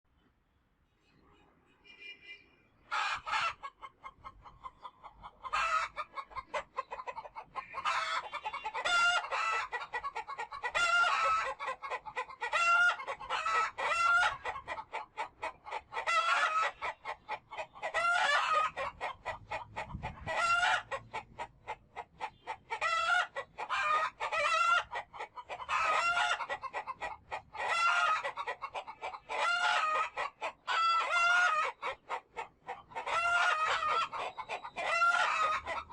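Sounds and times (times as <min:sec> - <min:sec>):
chickens clucking: 0:02.8 - 0:35.9.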